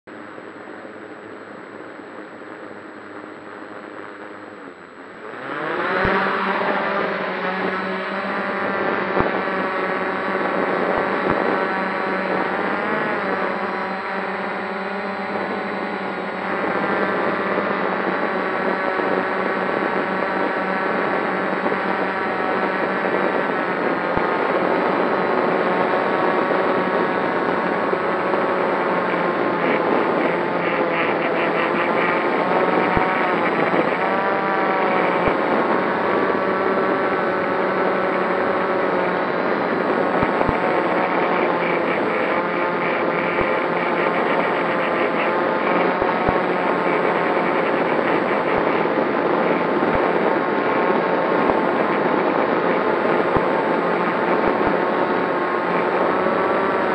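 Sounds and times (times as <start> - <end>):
drone propellers whirring: 0.1 - 56.9.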